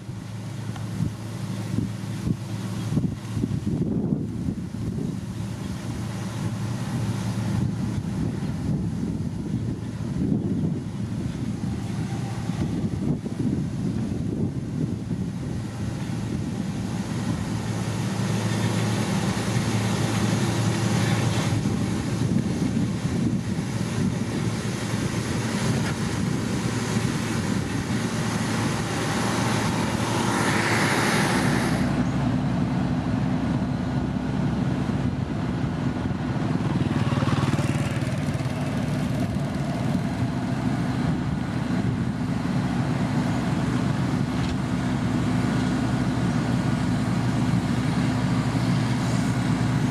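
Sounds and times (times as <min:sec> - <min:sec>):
heavy machinery diesel engines: 0:00.0 - 0:49.9.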